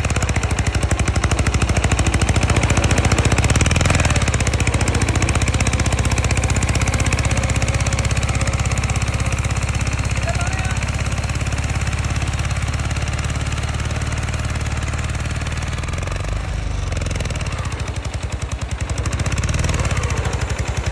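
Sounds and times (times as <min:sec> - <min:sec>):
tractor engine pulsing under load: 0:00.0 - 0:20.9.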